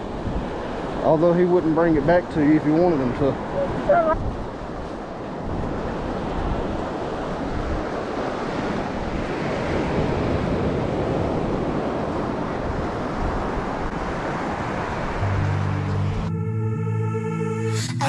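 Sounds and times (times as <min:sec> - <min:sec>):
wind buffeting microphone: 0:00.0 - 0:15.4
ocean surf washing onto beach: 0:00.0 - 0:16.0.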